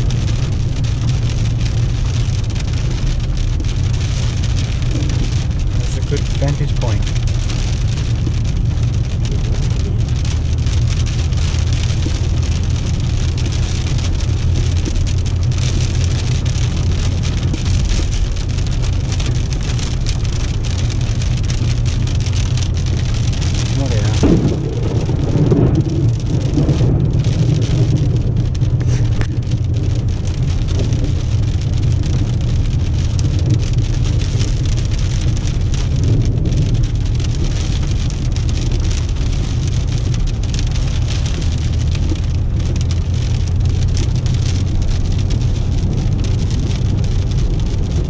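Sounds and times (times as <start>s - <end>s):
rain on car windshield: 0.0s - 48.0s
road and engine drone: 0.0s - 48.0s.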